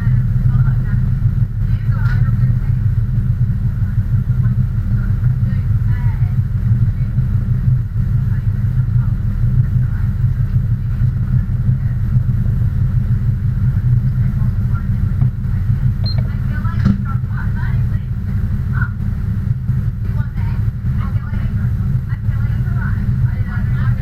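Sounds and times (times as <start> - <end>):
faint voices: 0.0 - 24.0
low engine rumble: 0.0 - 24.0.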